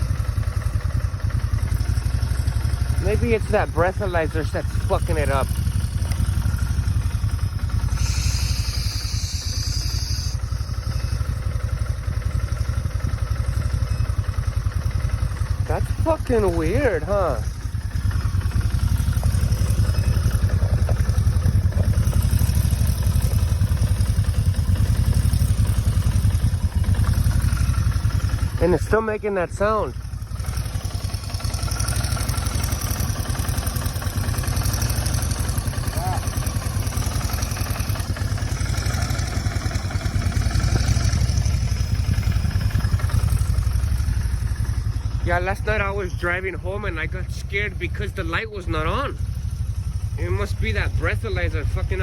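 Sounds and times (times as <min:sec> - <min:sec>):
vehicle engine idling: 0:00.0 - 0:52.0.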